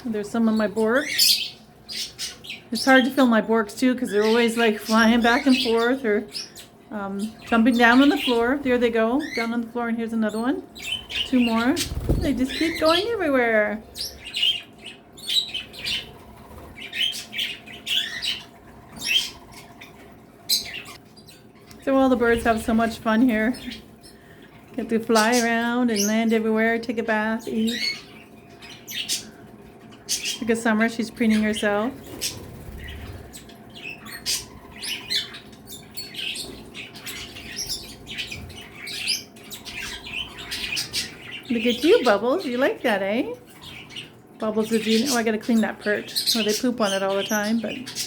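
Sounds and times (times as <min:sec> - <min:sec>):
parrots chirping: 0:00.0 - 0:48.0.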